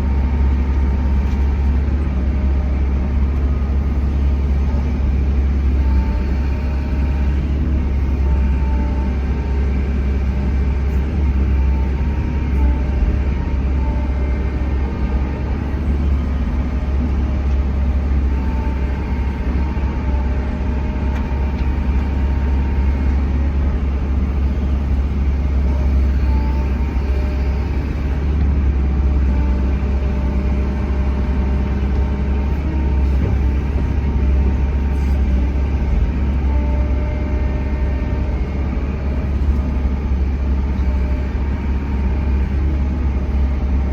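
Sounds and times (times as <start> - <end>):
excavator diesel engine rumbling: 0.0 - 43.9.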